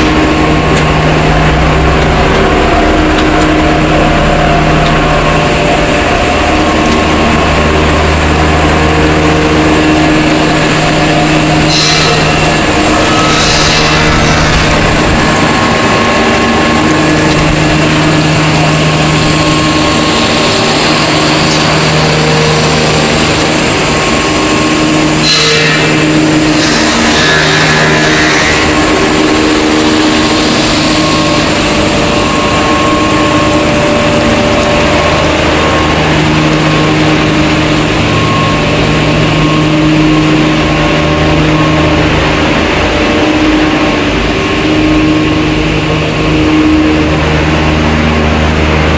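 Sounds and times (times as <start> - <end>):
machinery hum with tones: 0.0 - 48.9.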